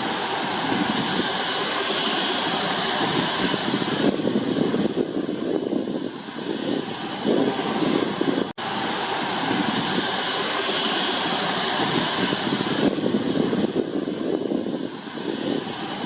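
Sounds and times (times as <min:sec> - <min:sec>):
rushing jet noise: 0:00.0 - 0:16.0.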